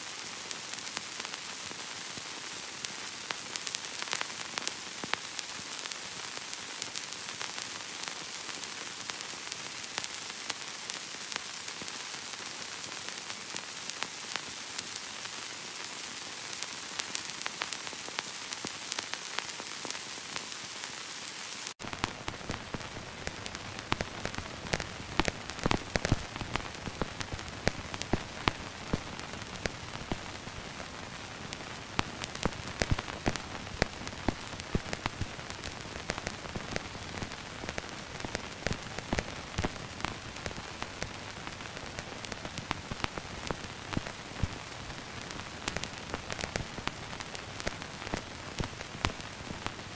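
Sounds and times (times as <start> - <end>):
film pops and crackles: 0.0 - 49.9
old film hiss: 0.0 - 49.9.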